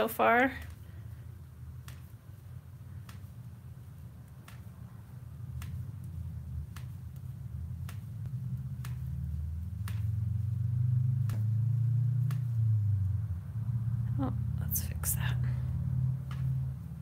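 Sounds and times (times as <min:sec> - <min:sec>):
knitting needles clicking: 0:00.0 - 0:13.3, 0:15.1 - 0:17.0
low hum: 0:00.0 - 0:17.0.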